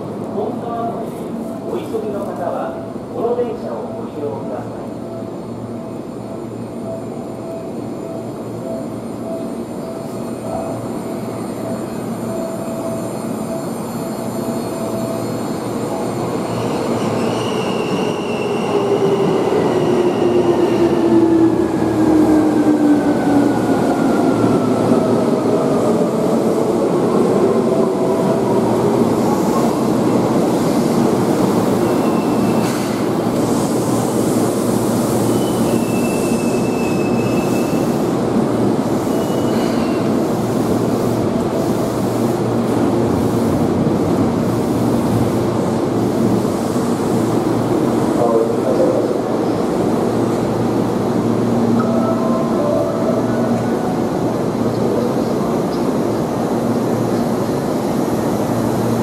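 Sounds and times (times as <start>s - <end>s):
train wheels on rails: 8.3s - 59.0s.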